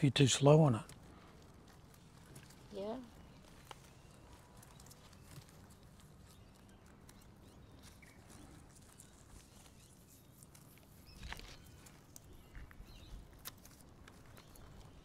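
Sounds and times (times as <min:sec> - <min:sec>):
guinea pigs feeding clicks: 0:00.0 - 0:15.0.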